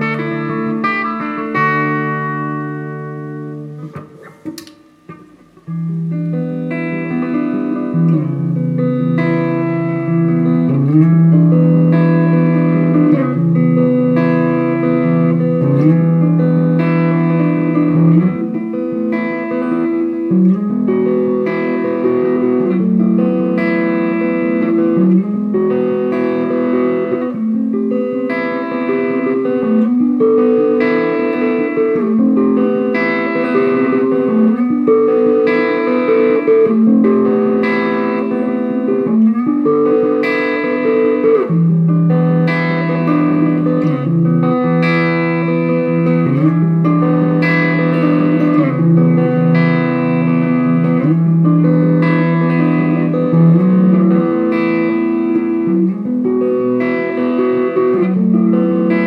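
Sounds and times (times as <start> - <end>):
overdriven electric guitar chords: 0.0 - 59.0.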